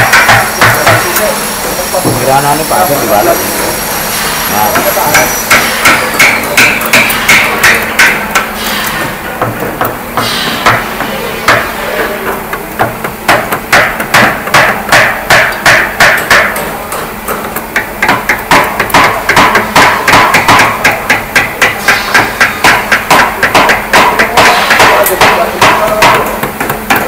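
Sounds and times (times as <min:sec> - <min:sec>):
hammer striking chisel: 0:00.0 - 0:01.3, 0:04.5 - 0:27.0.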